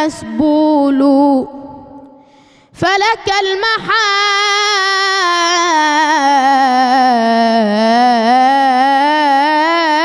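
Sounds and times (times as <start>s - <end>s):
boy singing unaccompanied: 0.0s - 1.9s, 2.8s - 10.0s.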